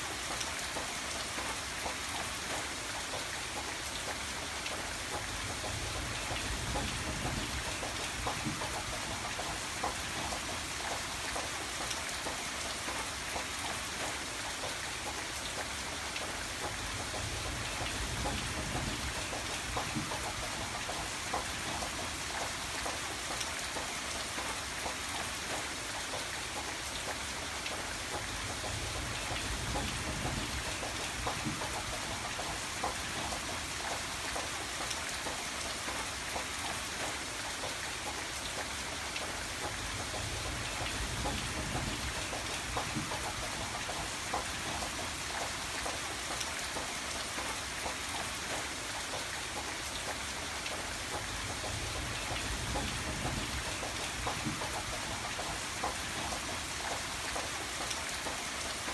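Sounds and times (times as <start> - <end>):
rain pattering on a surface: 0.0 - 58.9.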